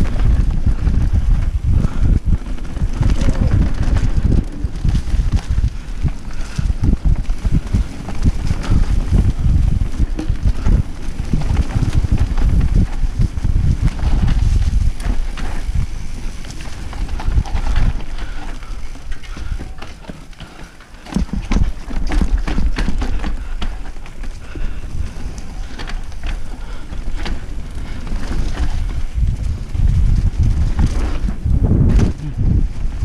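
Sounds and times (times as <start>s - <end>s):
bike clicks and rattles: 0.0s - 33.0s
bike tyres rumbling on dirt: 0.0s - 33.0s
wind buffeting microphone: 0.0s - 33.0s.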